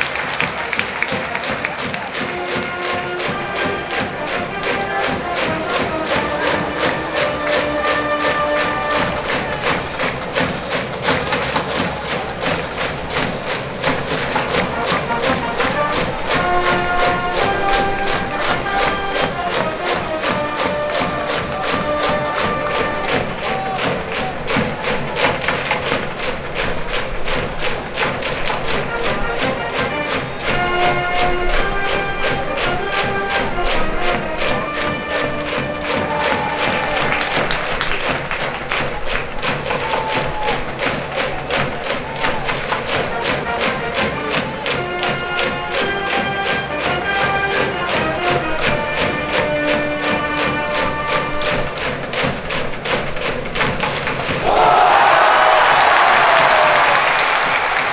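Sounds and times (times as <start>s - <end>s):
brass band playing: 0.0s - 57.9s
quick drum beat: 0.0s - 57.9s.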